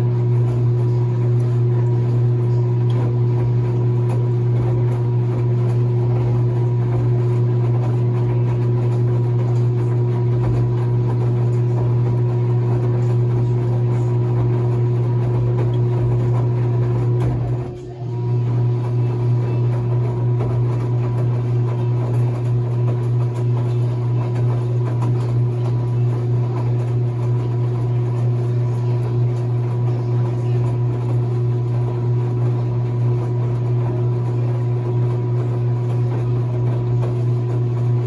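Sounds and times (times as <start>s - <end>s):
washing machine motor humming: 0.0s - 38.0s.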